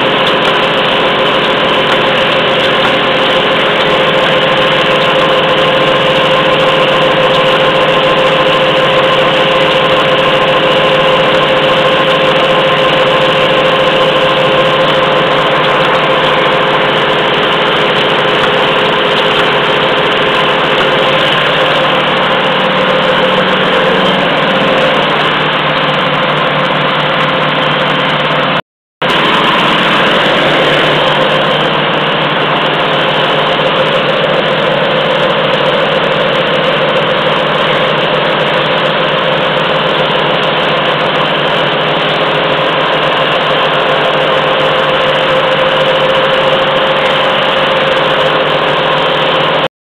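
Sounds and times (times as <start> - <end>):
machine running with hum: 0.0 - 49.7.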